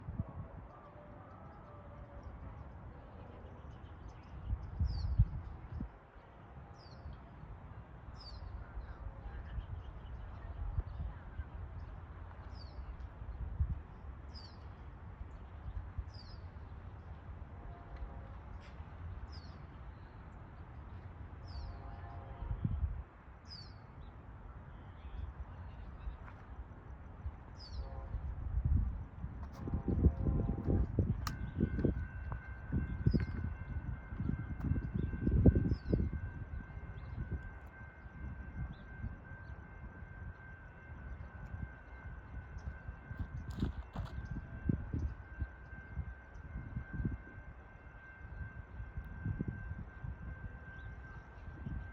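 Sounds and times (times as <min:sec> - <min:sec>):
train rumble: 0:00.0 - 0:51.9.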